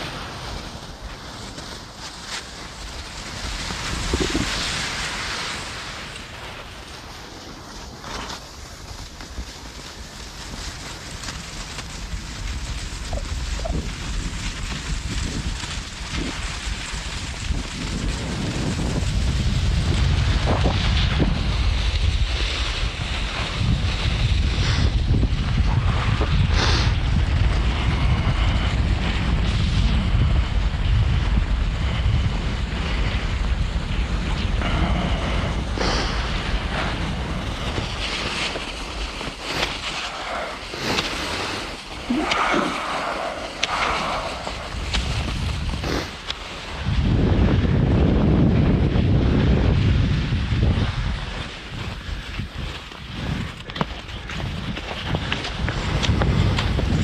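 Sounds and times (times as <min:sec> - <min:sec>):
skis hissing over snow: 0:00.0 - 0:57.0
wind buffeting microphone: 0:00.0 - 0:57.0.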